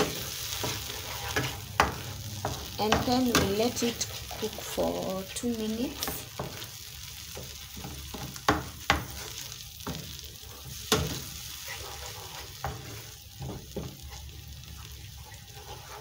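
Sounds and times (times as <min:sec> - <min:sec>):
low sizzle: 0:00.0 - 0:16.0
wooden spoon scraping a pan: 0:00.0 - 0:16.0.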